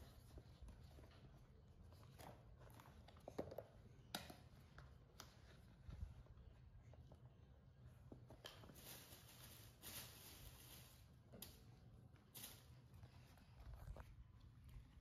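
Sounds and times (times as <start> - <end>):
faint clicks and rustles: 0.0 - 15.0.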